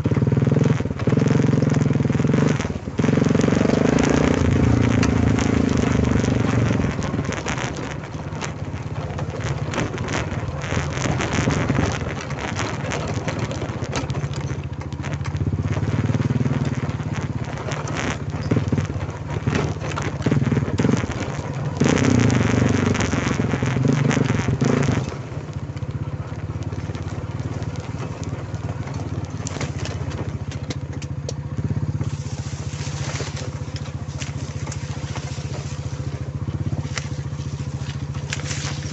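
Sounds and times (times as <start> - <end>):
quad bike engine: 0.0 - 38.9
rough noise: 0.5 - 38.9.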